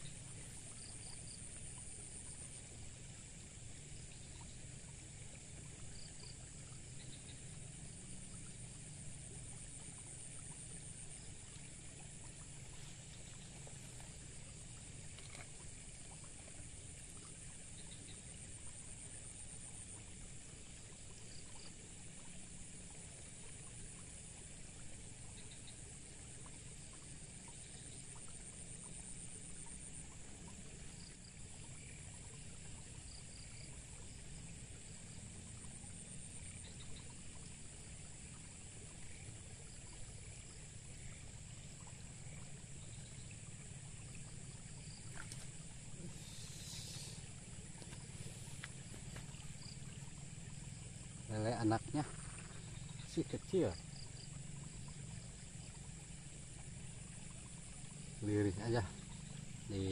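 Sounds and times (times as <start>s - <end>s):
continuous high hiss: 0.0s - 59.9s
water trickling: 0.0s - 59.9s.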